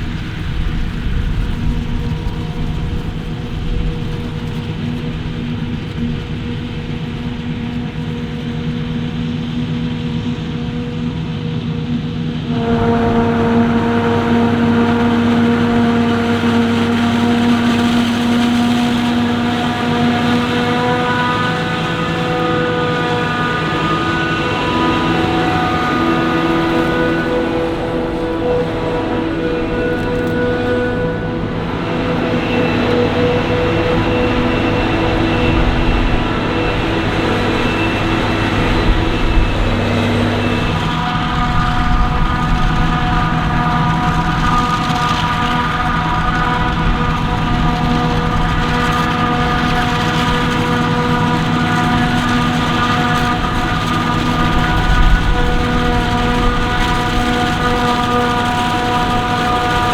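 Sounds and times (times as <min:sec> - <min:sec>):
heavy machinery engine drone: 0:00.0 - 0:59.9
steady whine: 0:00.0 - 0:59.9.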